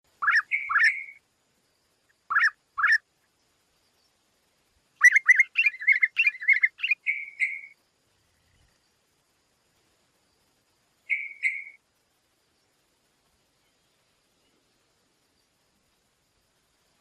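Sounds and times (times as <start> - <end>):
songbird chirping and trilling: 0.1 - 16.0.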